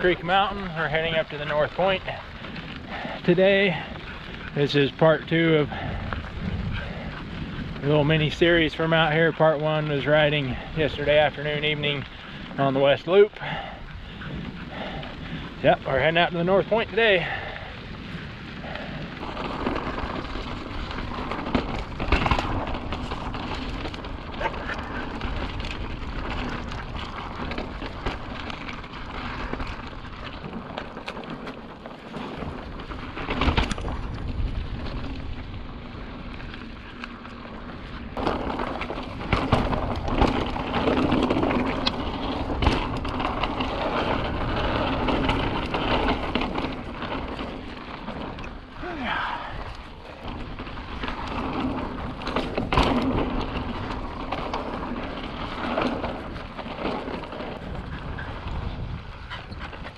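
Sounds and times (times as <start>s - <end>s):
wind on camera microphone: 0.0s - 31.1s, 32.2s - 37.0s, 37.6s - 59.9s
bike knocking and rattling: 0.0s - 59.9s
bike tyres rolling on rock: 0.0s - 59.9s.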